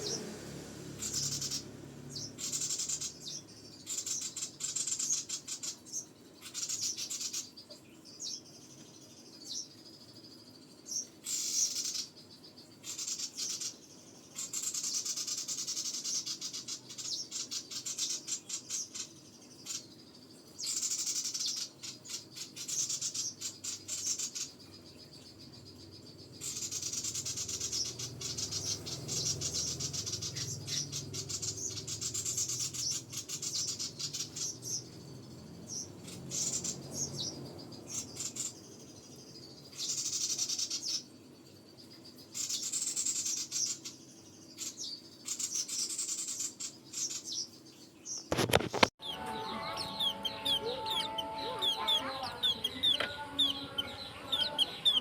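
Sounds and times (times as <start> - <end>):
songbird twittering: 0.0 - 55.0.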